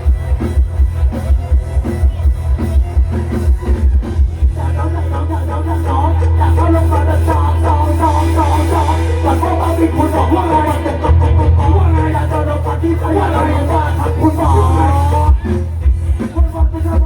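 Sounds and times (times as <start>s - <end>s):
loud party music with singing: 0.0s - 17.0s.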